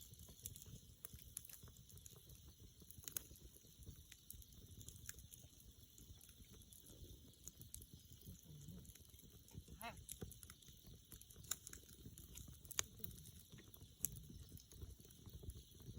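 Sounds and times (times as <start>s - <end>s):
campfire crackling and popping: 0.0s - 15.9s.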